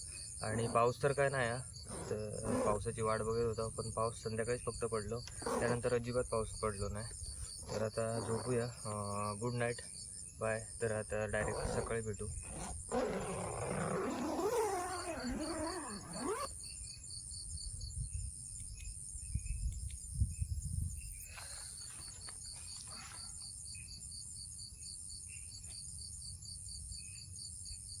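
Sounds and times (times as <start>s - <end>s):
crickets chirping: 0.0s - 28.0s
insects buzzing: 0.0s - 28.0s.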